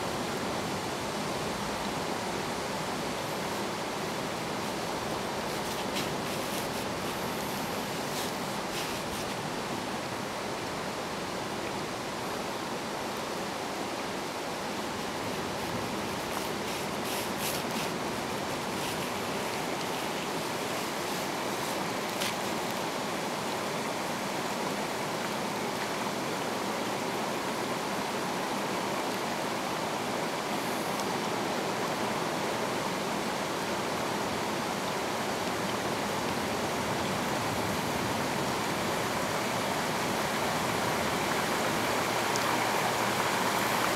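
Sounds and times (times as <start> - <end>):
stream running over rocks: 0.0 - 43.9.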